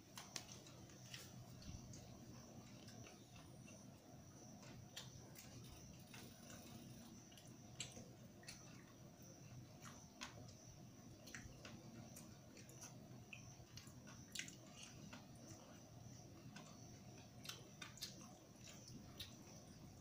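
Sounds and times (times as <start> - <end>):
chewing: 0.1 - 10.6, 11.2 - 20.0.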